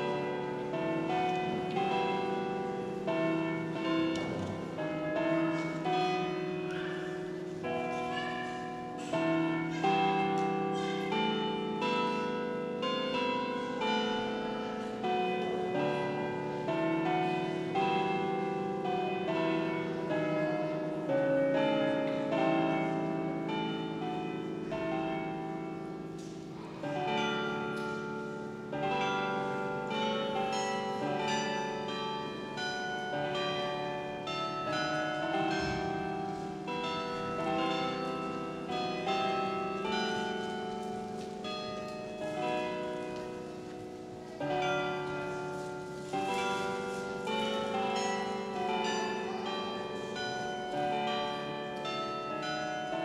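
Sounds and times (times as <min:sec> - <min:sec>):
chiming bell melody: 0:00.0 - 0:53.0.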